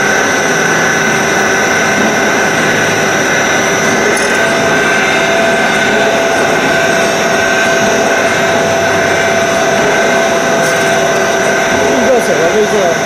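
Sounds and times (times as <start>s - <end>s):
grinding wheel whining: 0.0s - 13.0s.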